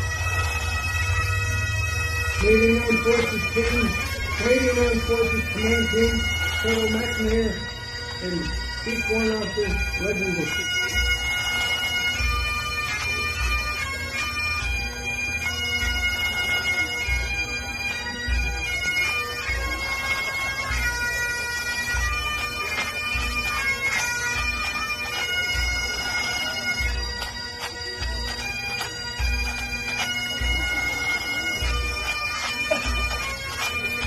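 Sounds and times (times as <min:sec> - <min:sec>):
bagpipes playing slow tune: 0:00.0 - 0:34.0.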